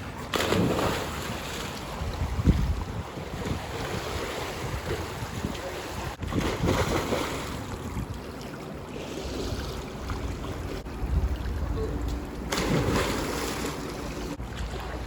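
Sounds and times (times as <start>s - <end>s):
water splashing against boat hull: 0.1s - 15.0s
wind buffeting microphone: 0.2s - 8.2s, 9.2s - 15.0s.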